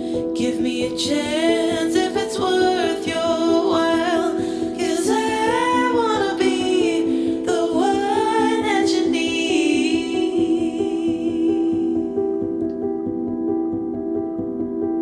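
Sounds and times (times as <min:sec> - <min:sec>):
person singing with vibrato: 0:00.0 - 0:12.5.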